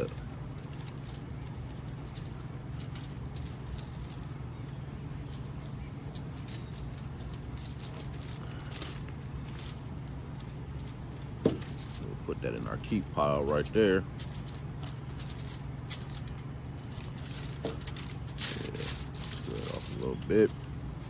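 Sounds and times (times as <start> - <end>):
crickets chirping: 0.0 - 21.0
low steady hum: 0.0 - 21.0.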